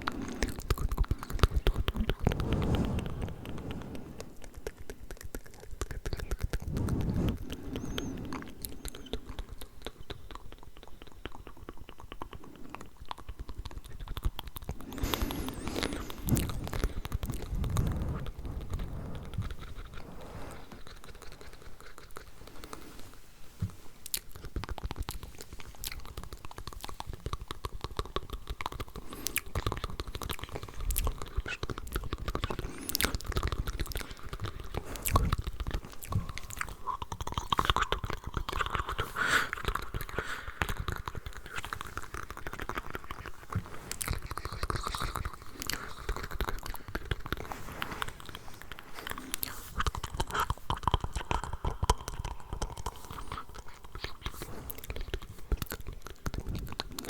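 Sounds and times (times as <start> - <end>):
wet mouth clicks and smacks: 4.3 - 19.9, 24.1 - 47.5, 49.0 - 57.0.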